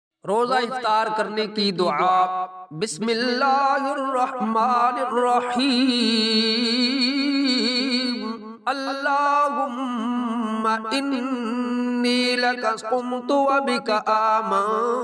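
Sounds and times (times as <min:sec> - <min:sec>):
solo voice singing: 0:02.8 - 0:15.0.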